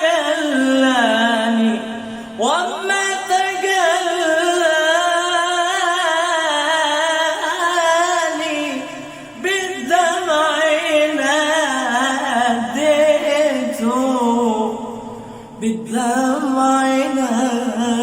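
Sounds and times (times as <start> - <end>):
man singing with vibrato: 0.0 - 18.0.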